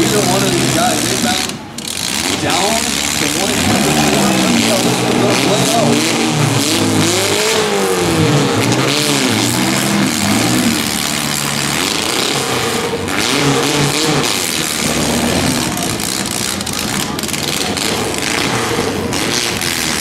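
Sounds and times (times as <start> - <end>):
truck engines revving: 0.0 - 20.0.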